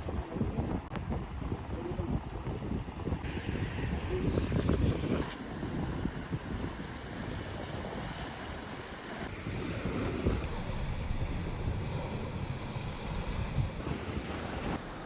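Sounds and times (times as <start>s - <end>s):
wind buffeting microphone: 0.0s - 14.8s
sea waves: 0.0s - 15.0s.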